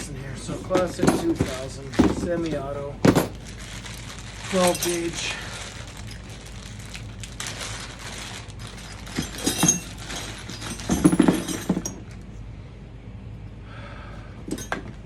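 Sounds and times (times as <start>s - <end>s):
metal parts clinking and rattling: 0.0s - 12.3s, 14.5s - 15.0s.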